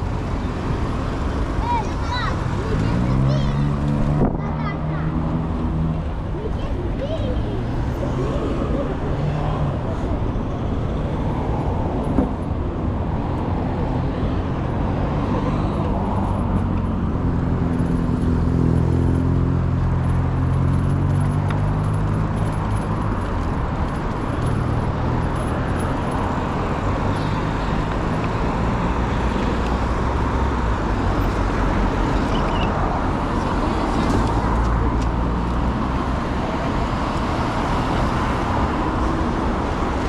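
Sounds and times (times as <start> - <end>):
road traffic: 0.0 - 40.0.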